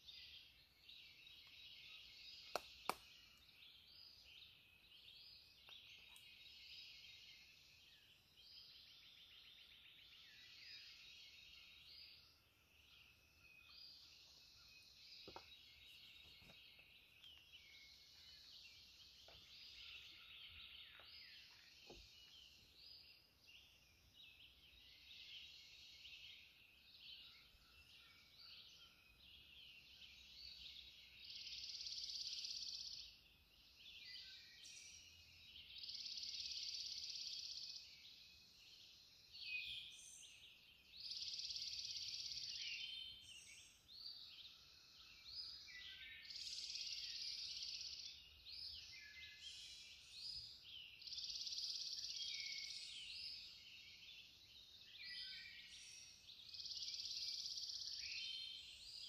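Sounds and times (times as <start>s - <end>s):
loud dense birdsong: 0.0s - 59.0s
songbirds chirping and singing: 0.0s - 59.0s.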